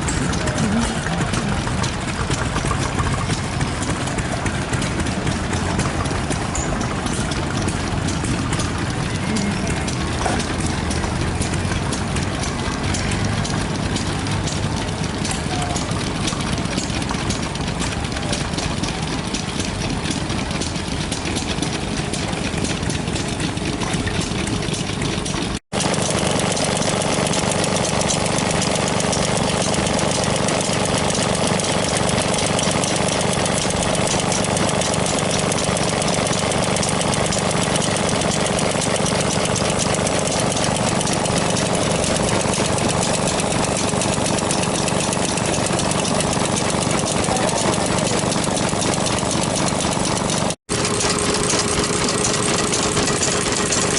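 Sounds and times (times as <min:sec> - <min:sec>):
stationary engines idling: 0:00.0 - 0:53.9.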